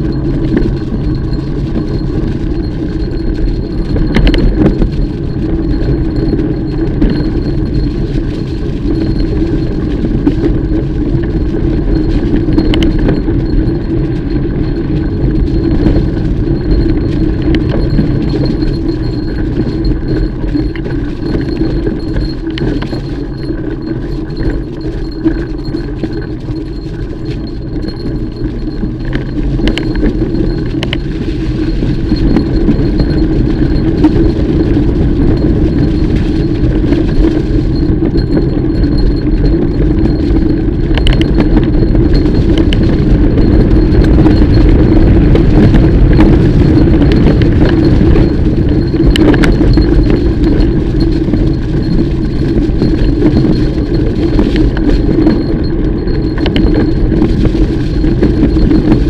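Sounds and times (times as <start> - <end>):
bike chain rattling: 0.0 - 59.0
bike tyres rumbling on dirt: 0.0 - 59.0.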